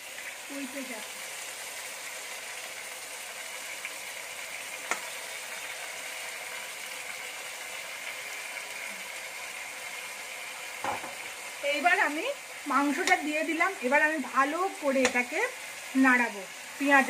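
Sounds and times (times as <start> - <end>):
meat and onions sizzling in a pot: 0.0 - 17.0.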